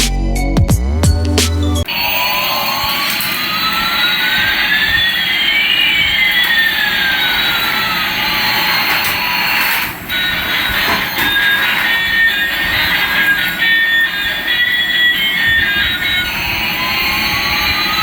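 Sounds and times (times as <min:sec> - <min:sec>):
jet engine whines: 0:01.8 - 0:18.0.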